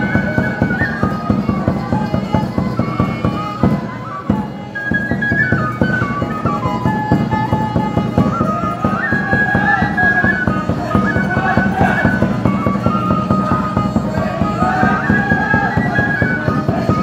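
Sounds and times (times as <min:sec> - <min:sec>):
percussive beats: 0:00.0 - 0:17.0
wooden flute melody: 0:00.0 - 0:17.0.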